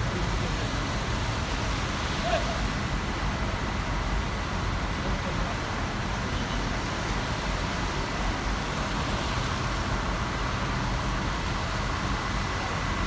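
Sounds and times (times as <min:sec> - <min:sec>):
bus engine running: 0:00.0 - 0:13.0
road and traffic noise: 0:00.0 - 0:13.0.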